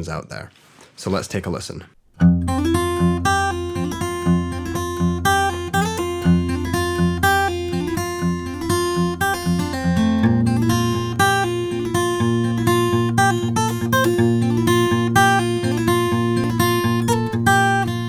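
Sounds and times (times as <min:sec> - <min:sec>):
acoustic guitar plucked notes: 0:02.2 - 0:18.0.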